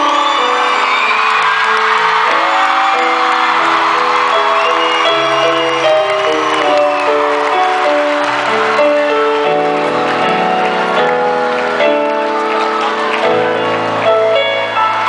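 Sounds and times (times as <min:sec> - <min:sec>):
applause: 0:00.0 - 0:15.0
crowd noise: 0:00.0 - 0:15.0
electric keyboard chords: 0:01.7 - 0:15.0.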